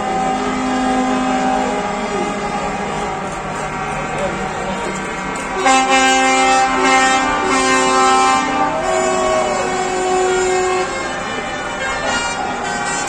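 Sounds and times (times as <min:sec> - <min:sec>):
truck air horn blasts: 0:00.0 - 0:13.0.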